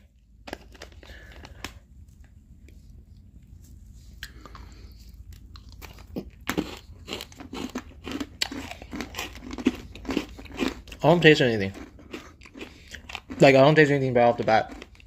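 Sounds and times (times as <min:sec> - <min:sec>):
people crunching biscuits: 0:00.0 - 0:03.3, 0:03.9 - 0:15.0.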